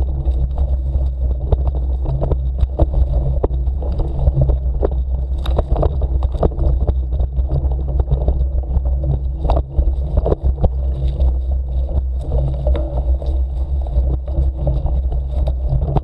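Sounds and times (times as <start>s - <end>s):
low rumble of camera buffeting: 0.0s - 16.0s
wheels clicking over rough ground: 0.0s - 16.0s.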